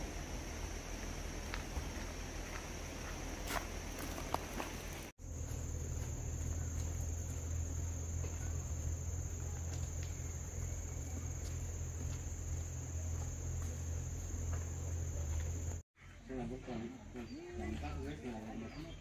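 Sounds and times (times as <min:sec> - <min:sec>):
insects trilling: 0:00.0 - 0:15.8.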